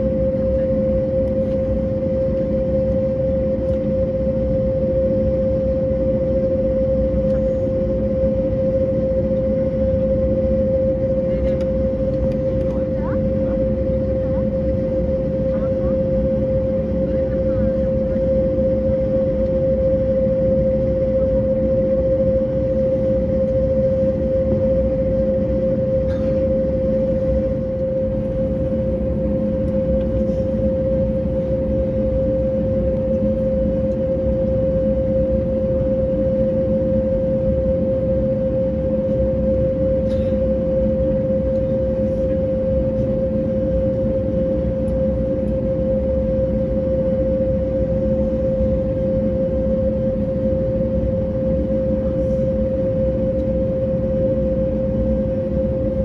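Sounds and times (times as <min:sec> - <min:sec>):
aircraft engines idling drone: 0:00.0 - 0:56.0.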